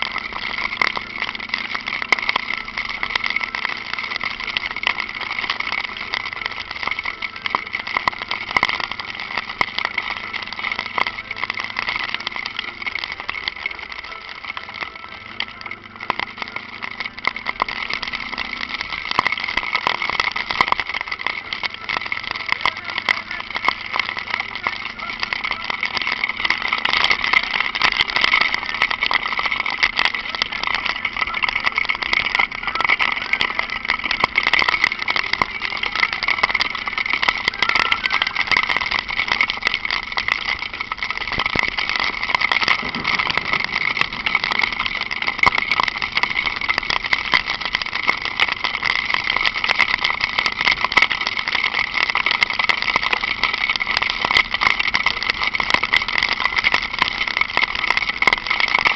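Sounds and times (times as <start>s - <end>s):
motorcycle engine running: 0.0s - 50.9s
rushing noise: 0.0s - 51.3s
rain ticks: 0.0s - 58.9s.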